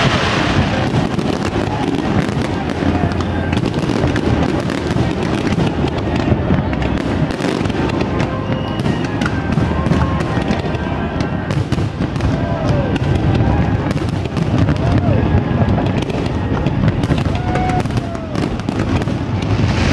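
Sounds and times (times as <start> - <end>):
fireworks crackling and popping: 0.0 - 19.9.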